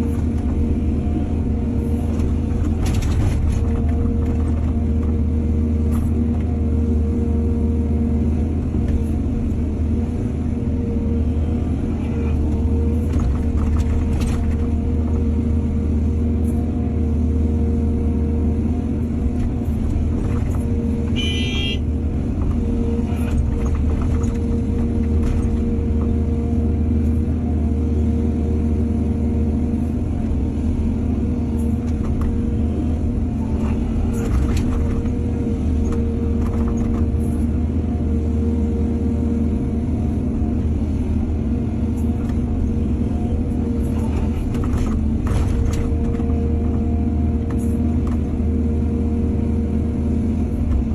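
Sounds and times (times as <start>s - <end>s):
excavator diesel rumble: 0.0s - 50.9s.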